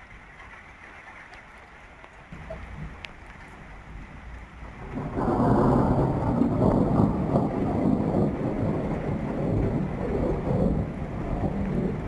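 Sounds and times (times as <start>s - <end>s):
thunder rumble: 2.3s - 12.0s.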